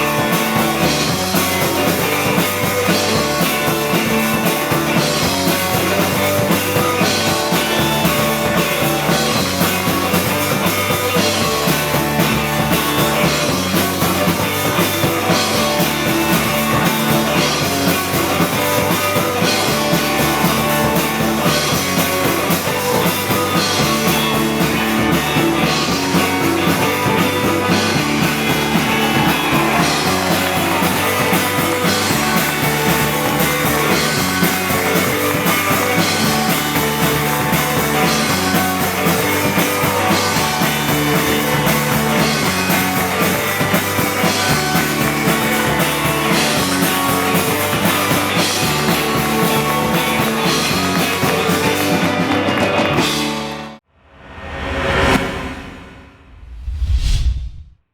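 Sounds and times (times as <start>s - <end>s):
rock music with drums: 0.0s - 53.8s.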